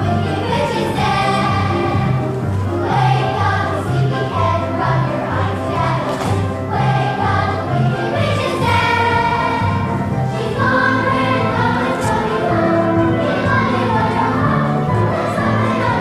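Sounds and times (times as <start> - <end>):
chorus singing with accompaniment: 0.0 - 16.0.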